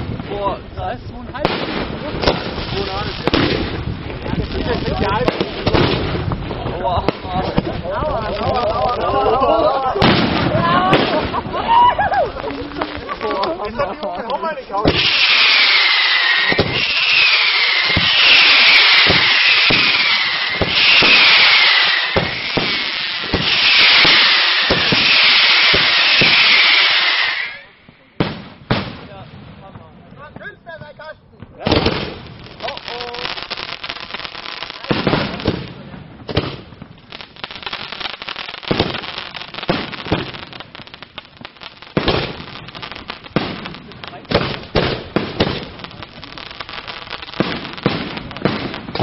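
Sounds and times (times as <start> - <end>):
fireworks hissing: 0.0 - 29.2, 31.6 - 49.0
fireworks bangs: 0.0 - 49.0.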